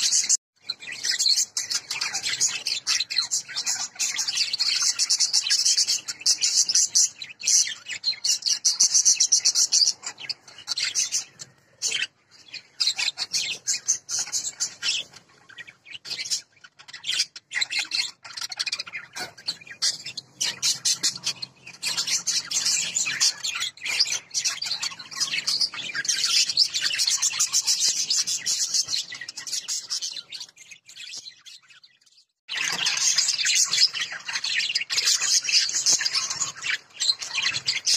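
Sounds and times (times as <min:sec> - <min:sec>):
budgerigars chirping: 0:00.0 - 0:31.9, 0:32.5 - 0:37.9.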